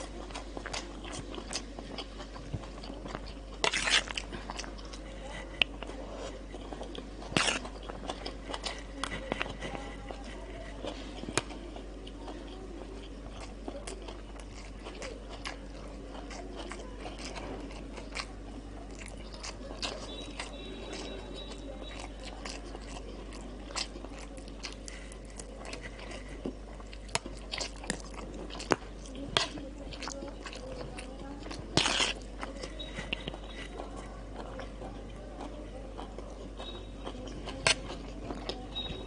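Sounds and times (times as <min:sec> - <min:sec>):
crunchy chewing: 0:00.0 - 0:39.0
steady low hum: 0:00.0 - 0:39.0.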